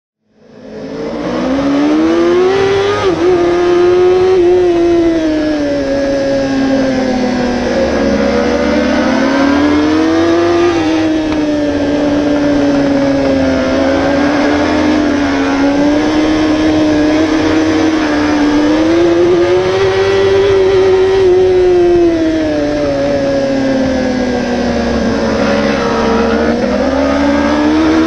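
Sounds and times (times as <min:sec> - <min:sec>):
motorcycle engine at high revs: 0:00.3 - 0:28.0
wind rush: 0:01.1 - 0:28.0.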